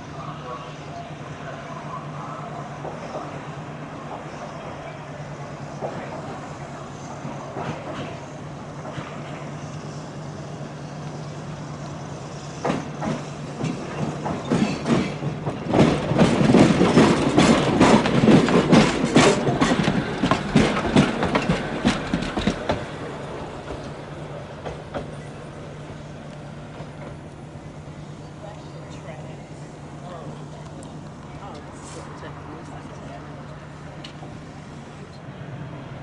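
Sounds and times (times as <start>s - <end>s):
tram wheels clacking over joints: 2.1s - 35.3s.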